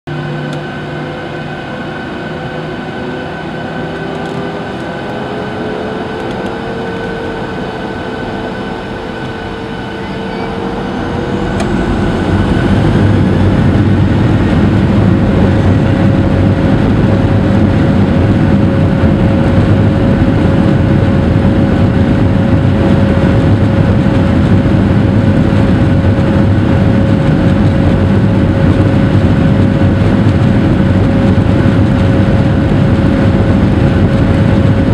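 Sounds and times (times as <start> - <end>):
jet engines spooling up: 0.2 - 34.9.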